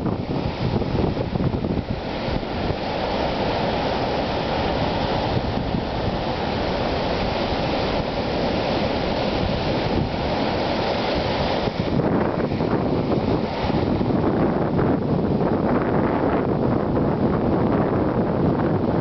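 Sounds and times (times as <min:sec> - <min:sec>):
ocean surf breaking on rocks: 0:00.0 - 0:19.0.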